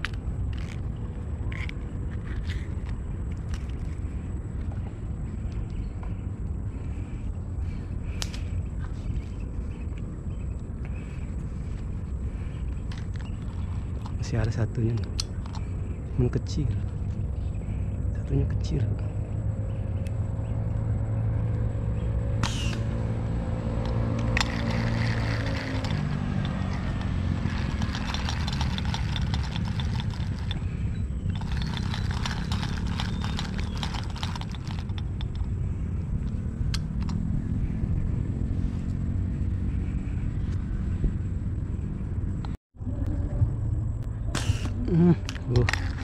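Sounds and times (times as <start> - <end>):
vehicle engine drone: 0.0 - 46.0.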